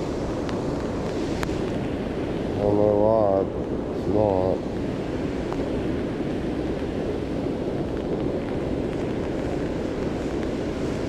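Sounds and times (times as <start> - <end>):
water roaring over spillway: 0.0 - 11.0.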